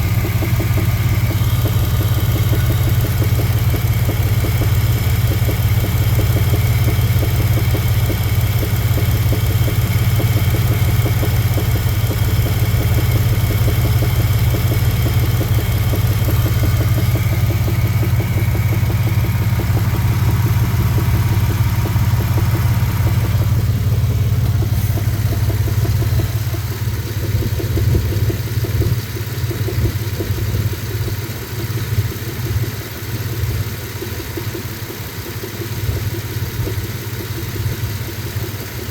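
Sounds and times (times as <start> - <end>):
engine knock: 0.0 - 38.9
engine running: 0.0 - 38.9.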